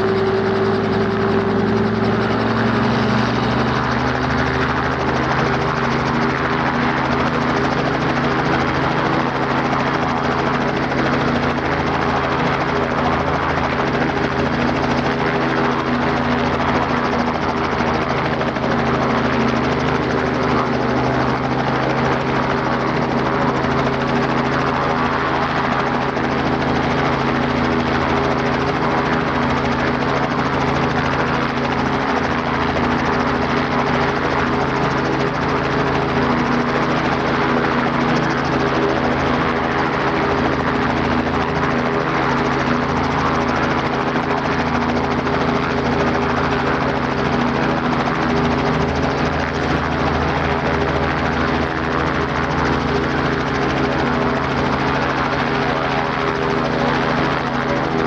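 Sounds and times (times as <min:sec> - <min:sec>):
helicopter engine and rotors droning: 0:00.0 - 0:58.0.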